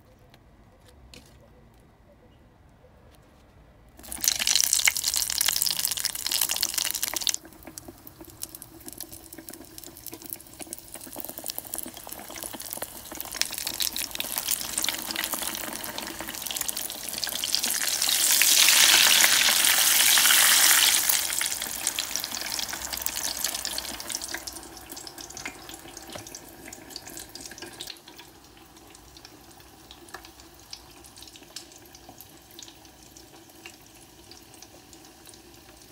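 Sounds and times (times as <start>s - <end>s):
deep-frying in hot oil: 4.0s - 35.9s.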